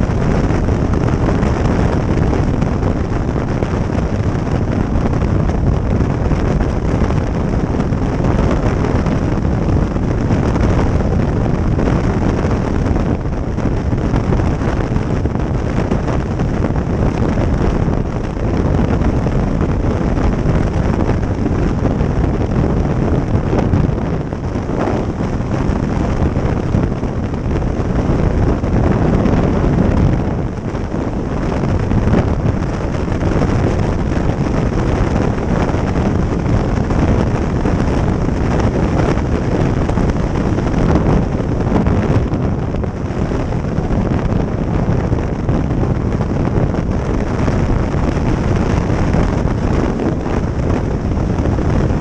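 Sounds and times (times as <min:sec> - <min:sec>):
road noise: 0:00.0 - 0:52.0
wind rushing over microphone: 0:00.0 - 0:52.0.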